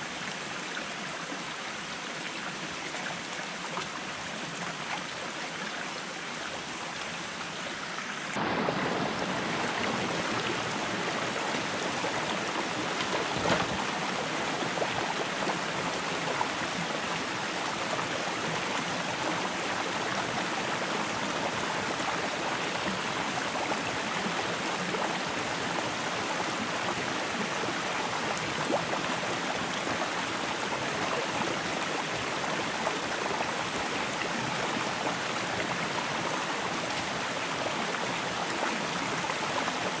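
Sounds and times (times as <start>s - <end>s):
rocky stream running: 0.0s - 40.0s.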